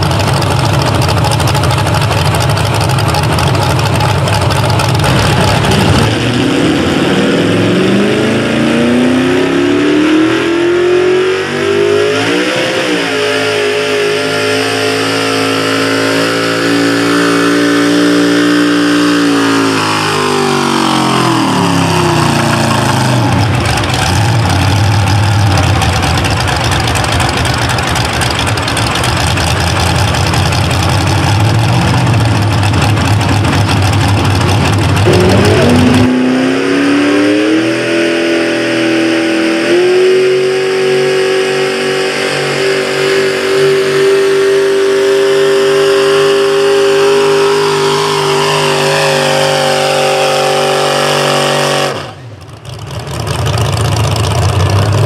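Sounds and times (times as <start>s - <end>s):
tractor engines at full throttle: 0.0s - 55.0s.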